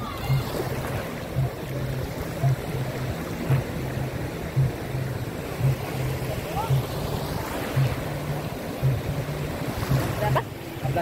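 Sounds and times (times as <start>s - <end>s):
gentle waves washing on beach: 0.0s - 11.0s
pulsing low hum: 0.0s - 11.0s.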